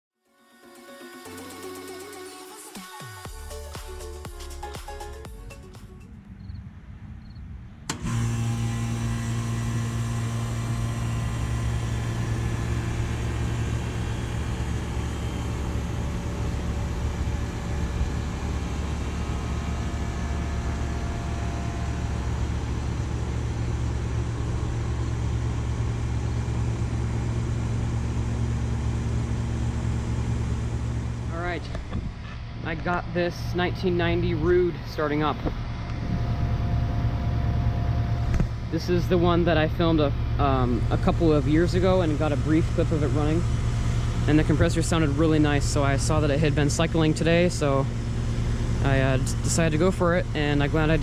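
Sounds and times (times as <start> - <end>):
air conditioner compressor humming: 7.9 - 51.0.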